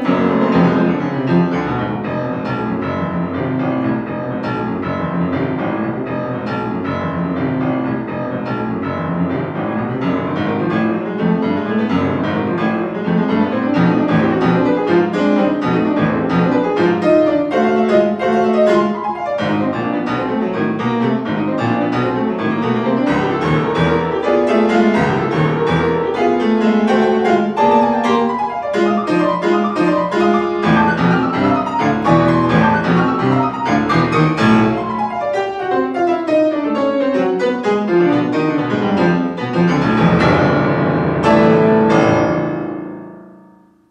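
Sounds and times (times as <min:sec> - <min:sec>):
grand piano playing: 0:00.0 - 0:43.9.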